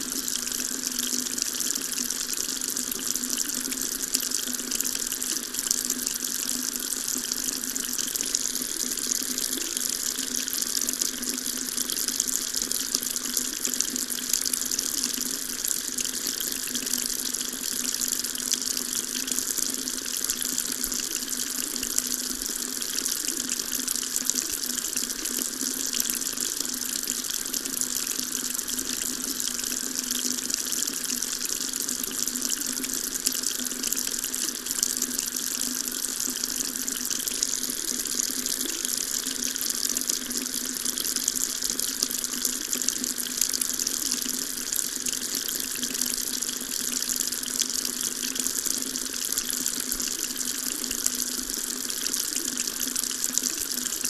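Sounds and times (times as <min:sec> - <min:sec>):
tap water running into sink: 0:00.0 - 0:54.0.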